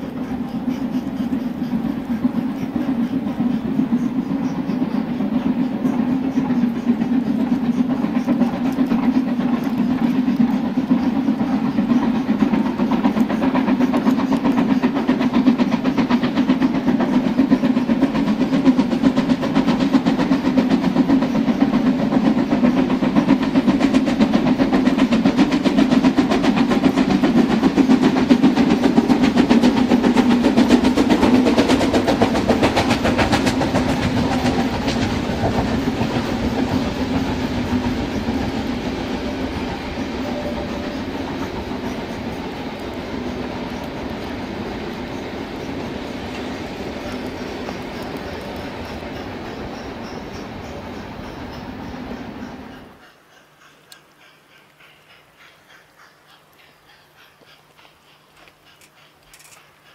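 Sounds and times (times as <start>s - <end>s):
model train running on track: 0.0s - 59.9s
wheels ticking over rails: 0.0s - 59.9s.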